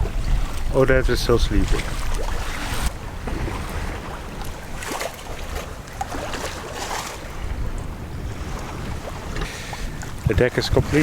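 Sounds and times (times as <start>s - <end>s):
water washing around boat: 0.0s - 11.0s
wind buffeting microphone: 0.0s - 11.0s.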